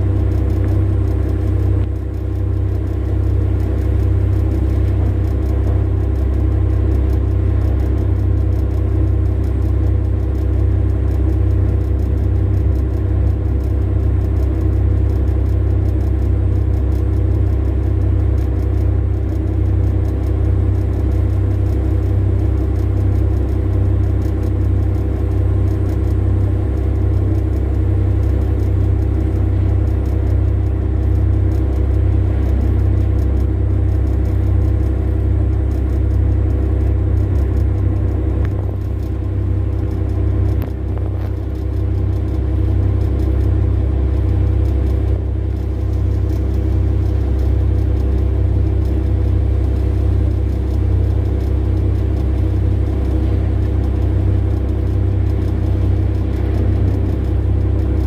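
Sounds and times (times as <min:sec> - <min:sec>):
diesel engines low rumble: 0:00.0 - 0:58.0
even engine hums: 0:00.0 - 0:58.0.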